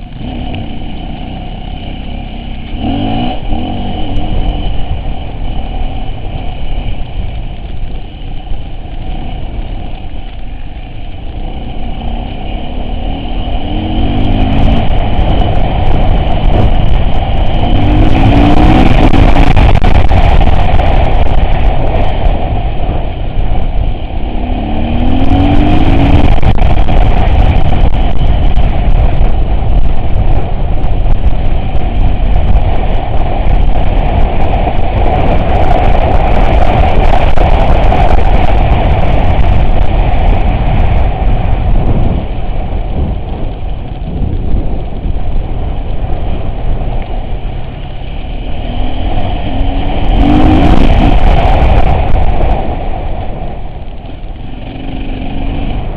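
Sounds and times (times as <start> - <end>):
engine revving: 0.0 - 7.2, 11.1 - 42.4, 47.0 - 52.7, 54.0 - 55.9
vehicle engine under load: 0.0 - 55.9.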